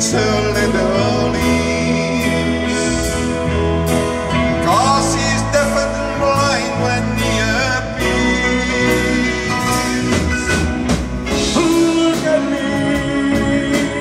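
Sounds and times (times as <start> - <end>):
man singing into microphone: 0.0 - 3.6, 4.5 - 14.0
live band playing: 0.0 - 14.0.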